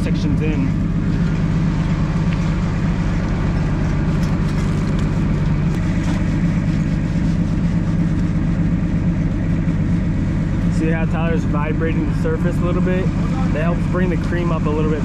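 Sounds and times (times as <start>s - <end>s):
heavy pump engine running: 0.0s - 15.0s.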